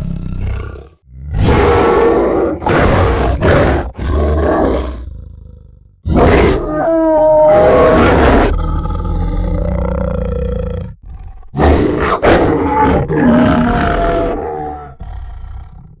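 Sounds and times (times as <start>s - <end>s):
monster wolf roars: 0.0s - 16.0s.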